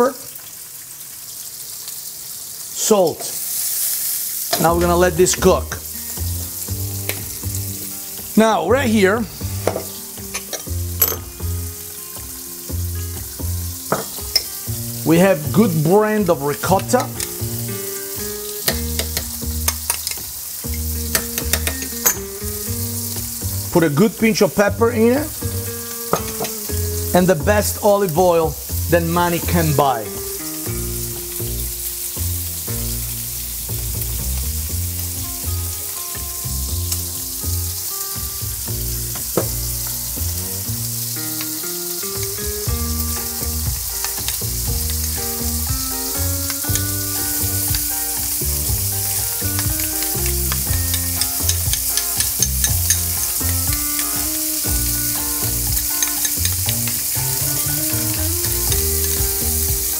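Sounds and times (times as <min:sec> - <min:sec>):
meat and vegetables sizzling in a pan: 0:00.0 - 0:59.9
background music: 0:04.5 - 0:59.9.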